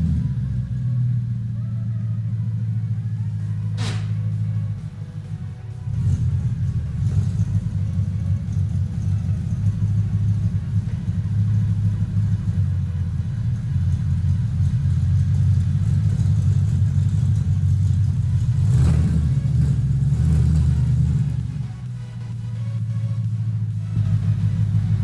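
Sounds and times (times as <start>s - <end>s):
car engine running deep: 0.0s - 25.0s.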